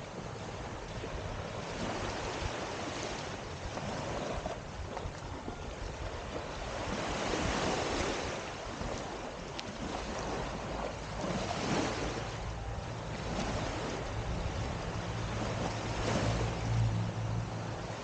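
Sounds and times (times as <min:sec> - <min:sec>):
small waves washing onto sand: 0:00.0 - 0:18.0
wind rumbling on microphone: 0:00.0 - 0:18.0.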